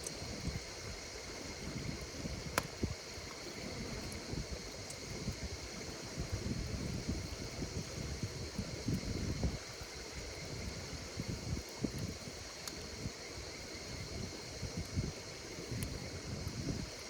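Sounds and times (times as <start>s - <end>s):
campfire burning: 0.0s - 17.0s
insects chirping: 0.0s - 17.0s
wood cracking in fire: 1.3s - 16.9s.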